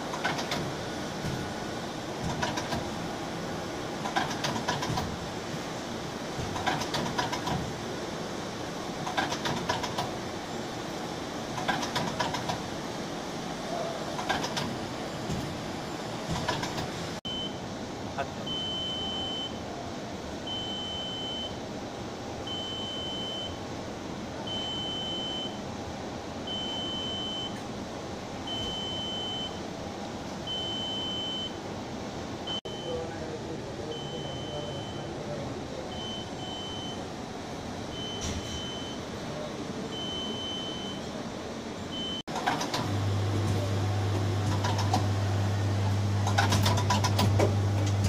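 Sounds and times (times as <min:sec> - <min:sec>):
steady machine hum: 0:00.0 - 0:48.0.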